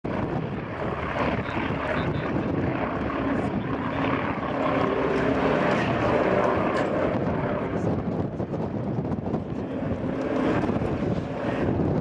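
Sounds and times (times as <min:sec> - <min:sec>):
propeller aircraft engines droning: 0:00.0 - 0:12.0.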